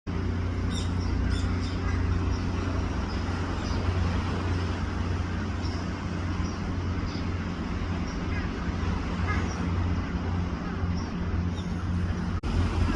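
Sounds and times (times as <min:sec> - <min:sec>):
steady low rumble: 0:00.1 - 0:12.9
small birds chirping: 0:00.6 - 0:04.1, 0:05.2 - 0:12.4.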